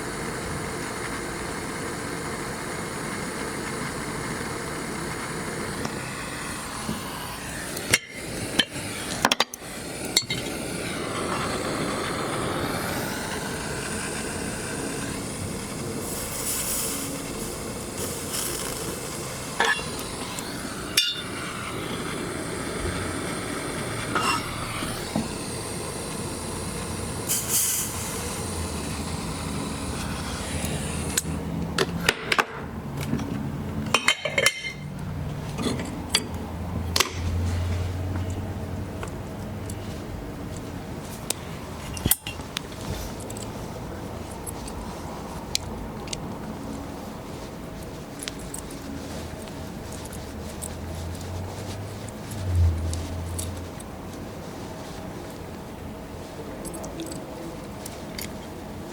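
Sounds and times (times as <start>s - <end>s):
steady background noise: 0.0s - 58.9s.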